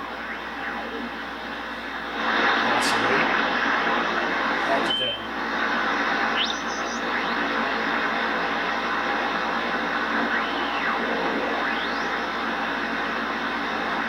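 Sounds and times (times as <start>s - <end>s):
faint radio whistles rising: 0.0s - 14.0s
radio static hiss: 0.0s - 14.0s.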